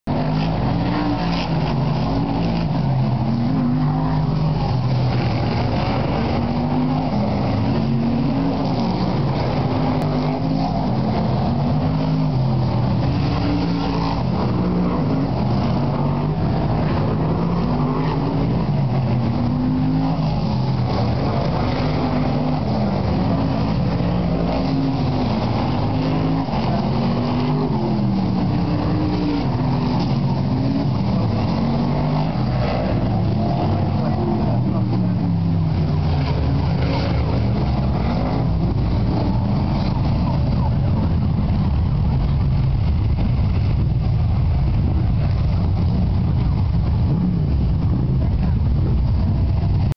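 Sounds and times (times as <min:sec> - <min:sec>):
race car engines revving: 0:00.0 - 0:49.9.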